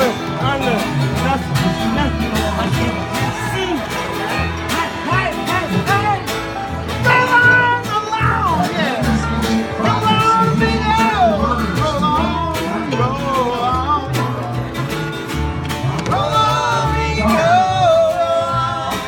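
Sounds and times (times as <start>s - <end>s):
bass notes: 0.0s - 19.0s
fiddle melody: 0.0s - 19.0s
guitar: 0.0s - 19.0s
picked banjo: 0.0s - 19.0s.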